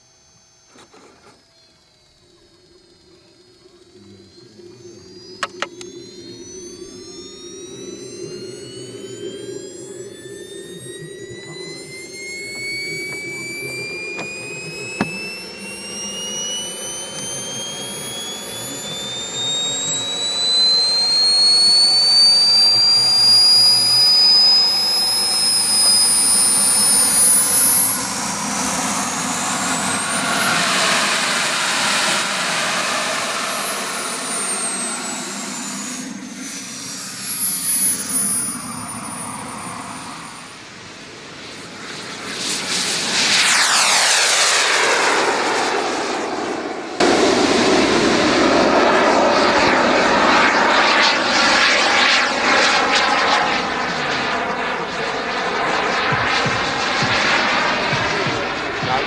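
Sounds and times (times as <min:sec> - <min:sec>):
higher rising and falling whine: 0:00.0 - 0:59.0
model jet turbine whine: 0:00.0 - 0:59.0.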